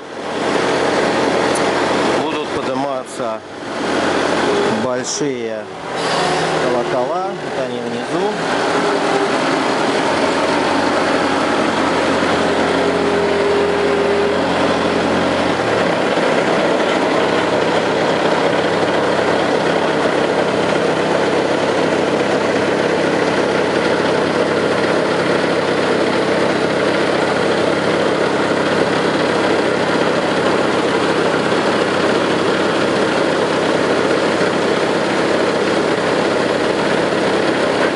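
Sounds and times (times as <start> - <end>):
excavator engine running: 0.0 - 37.9.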